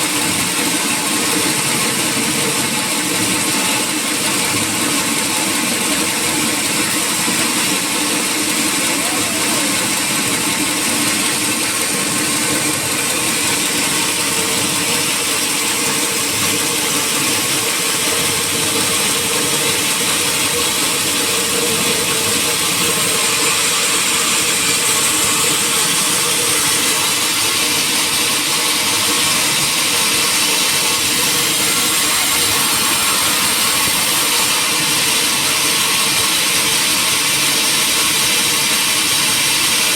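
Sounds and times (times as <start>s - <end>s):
sawmill machinery hissing din: 0.0s - 39.9s.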